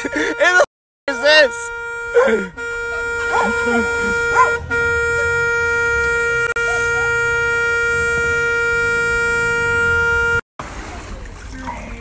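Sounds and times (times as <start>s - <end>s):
car horn blast: 0.0s - 10.4s.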